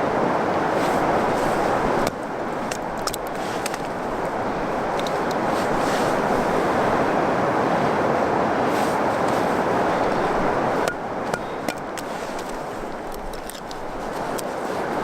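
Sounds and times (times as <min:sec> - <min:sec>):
flowing stream: 0:00.0 - 0:15.0.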